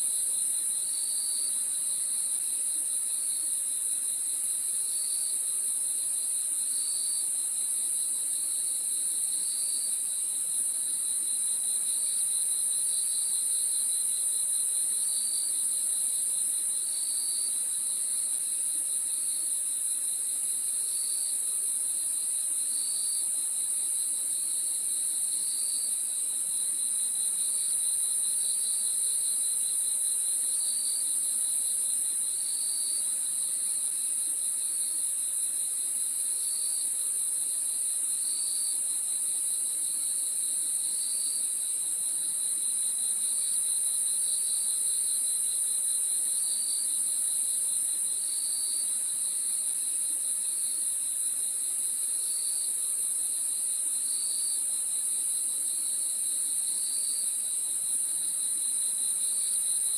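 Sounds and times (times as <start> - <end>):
crickets chirping chorus: 0.0 - 59.9.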